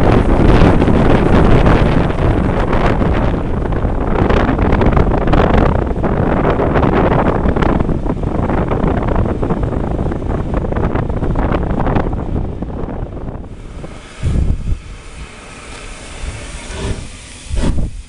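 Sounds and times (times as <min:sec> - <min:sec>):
train running noise: 0:00.0 - 0:18.0
wind buffeting microphone: 0:00.0 - 0:18.0.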